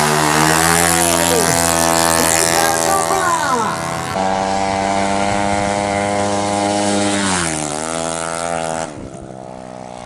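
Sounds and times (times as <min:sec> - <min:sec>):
scooter engine running flat out: 0:00.0 - 0:10.0.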